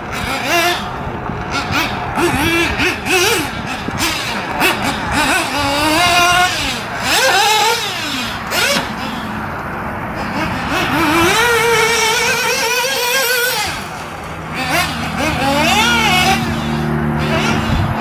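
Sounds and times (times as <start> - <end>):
rc car motor revving: 0.0 - 18.0.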